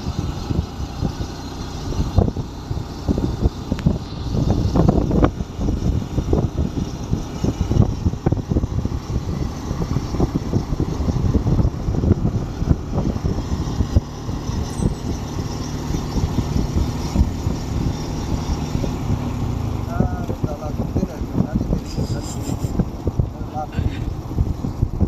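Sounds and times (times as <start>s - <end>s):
vehicle rumble in motion: 0.0s - 25.0s.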